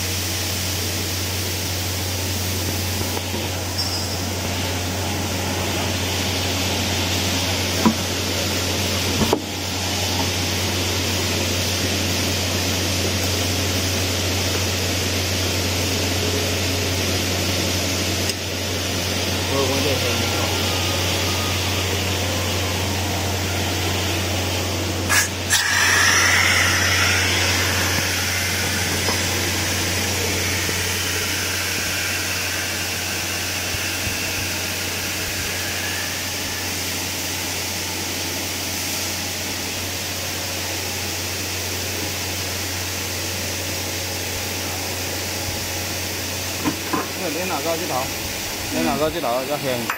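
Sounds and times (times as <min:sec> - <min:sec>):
machinery humming: 0:00.0 - 0:49.9.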